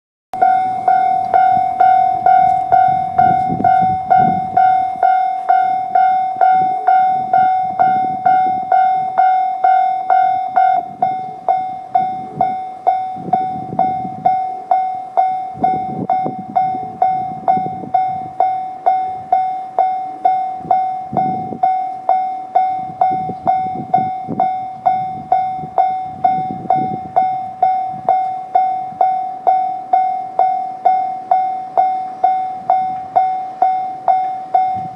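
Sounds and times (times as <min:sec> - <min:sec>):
electronic level-crossing bell: 0:00.4 - 0:34.9
higher ringing tone: 0:00.4 - 0:34.9.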